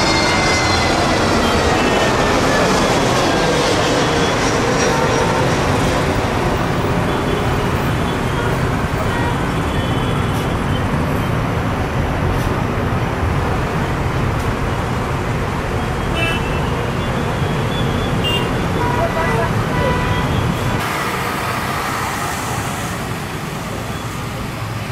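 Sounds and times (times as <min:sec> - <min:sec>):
jet engine roar: 0:00.0 - 0:24.9
road traffic noise: 0:00.0 - 0:24.9.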